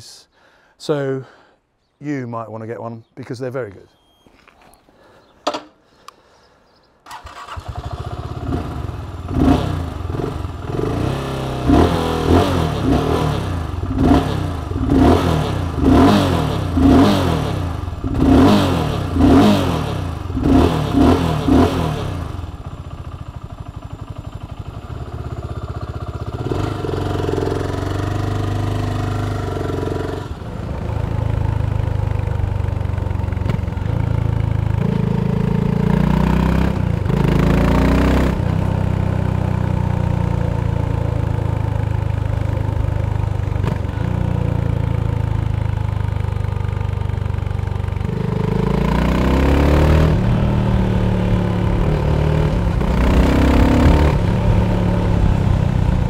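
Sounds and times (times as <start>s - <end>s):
motorcycle engine revving: 7.1s - 56.0s.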